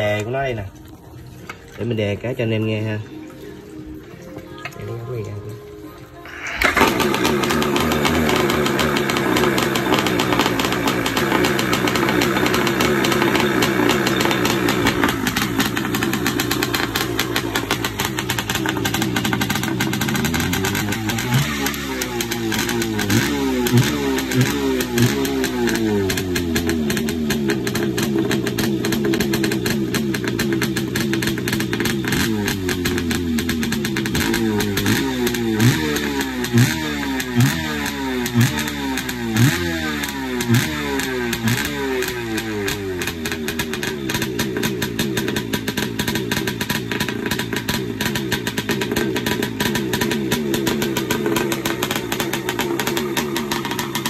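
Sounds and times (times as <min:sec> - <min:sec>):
two-stroke engine revving: 0:06.3 - 0:54.0.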